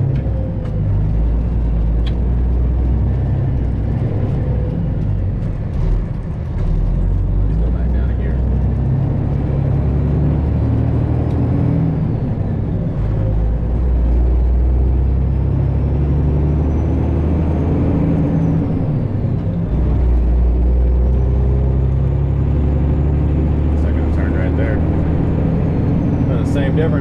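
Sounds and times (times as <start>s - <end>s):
diesel truck engine droning: 0.0s - 27.0s.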